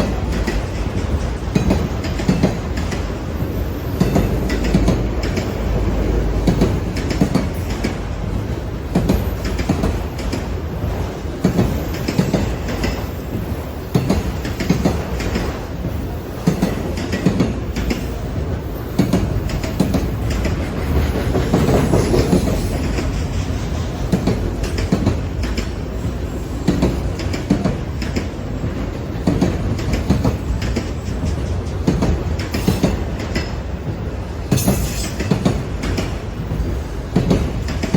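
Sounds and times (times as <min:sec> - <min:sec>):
train low rumble: 0:00.0 - 0:37.9
train wheels clacking: 0:00.0 - 0:37.9.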